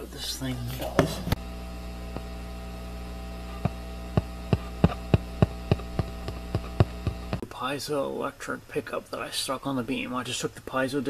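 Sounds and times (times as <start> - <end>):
mains hum: 0.0 - 11.0.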